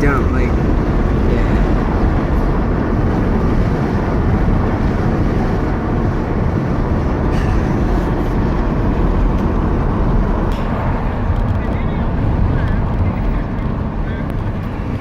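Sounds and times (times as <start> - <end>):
car interior road and engine rumble: 0.0 - 15.0.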